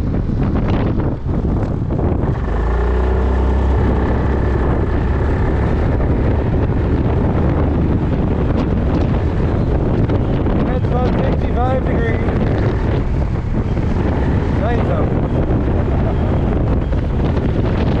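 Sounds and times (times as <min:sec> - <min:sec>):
wind buffeting microphone: 0:00.0 - 0:18.0
scooter engine running: 0:00.2 - 0:18.0.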